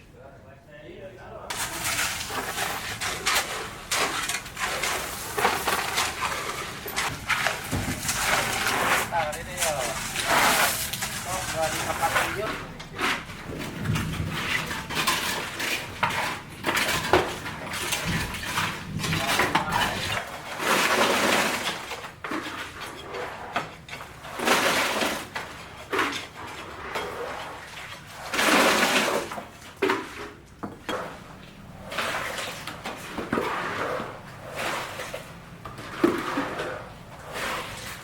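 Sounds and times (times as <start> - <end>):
scraping rasping sounds: 1.5 - 38.0.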